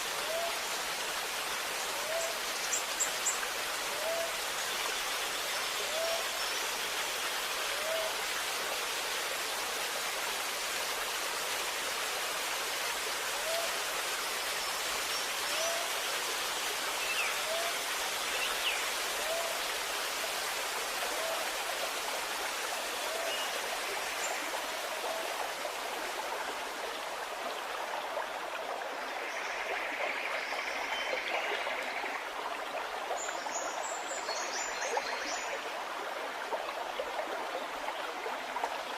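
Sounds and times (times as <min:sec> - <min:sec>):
stream water gurgling: 0:00.0 - 0:38.9.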